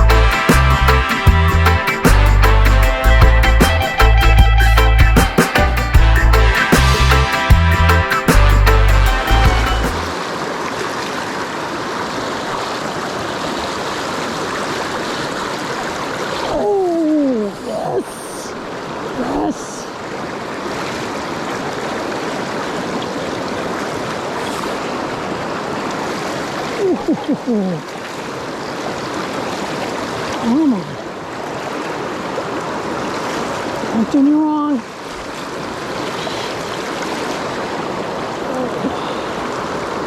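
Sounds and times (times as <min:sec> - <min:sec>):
creek water rushing: 0:00.0 - 0:40.0.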